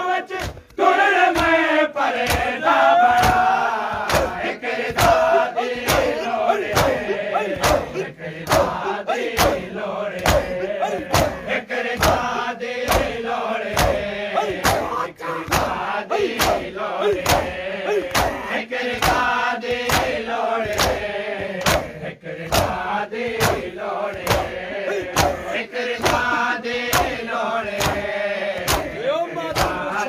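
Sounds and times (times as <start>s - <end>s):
crowd of men chanting: 0.0s - 30.0s
hands slapping chests: 0.3s - 30.0s.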